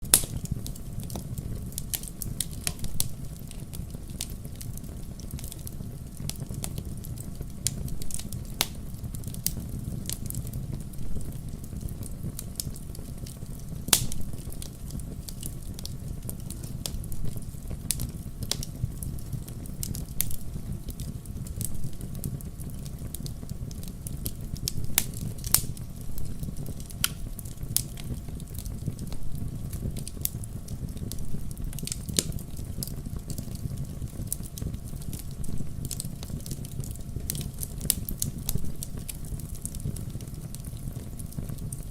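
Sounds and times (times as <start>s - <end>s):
fire flames rumbling: 0.0s - 41.9s
logs crackling and popping: 0.0s - 41.9s.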